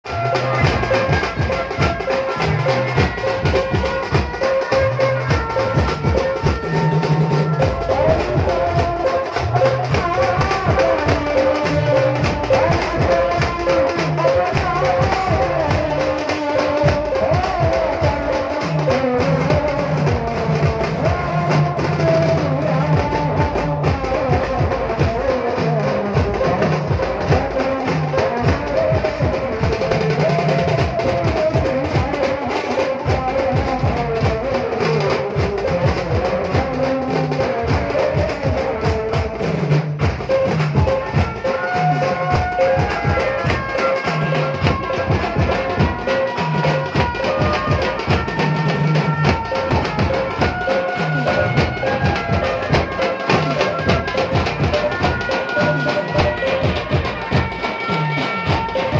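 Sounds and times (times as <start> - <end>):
banjo street band playing: 0.0 - 58.9
fast steady drum beat: 0.0 - 58.9.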